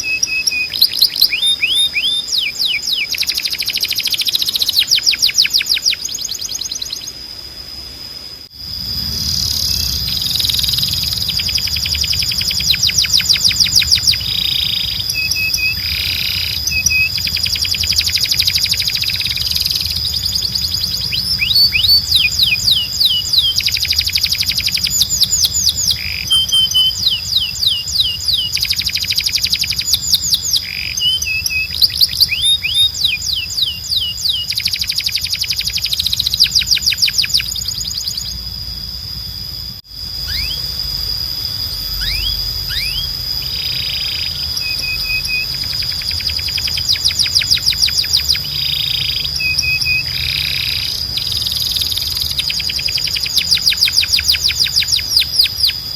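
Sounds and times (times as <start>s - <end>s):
canary singing trills: 0.0s - 7.4s, 8.6s - 55.9s.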